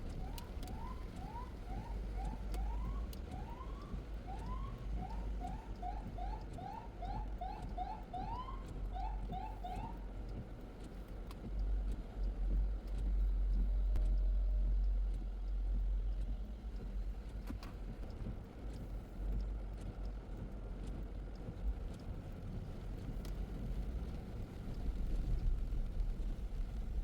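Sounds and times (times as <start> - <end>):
car driving on wet street: 0.0 - 27.0
light ticks: 0.0 - 27.0.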